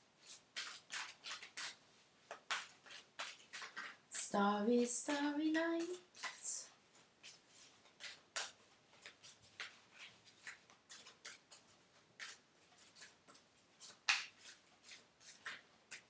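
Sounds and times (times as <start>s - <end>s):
cards being shuffled: 0.2s - 16.0s.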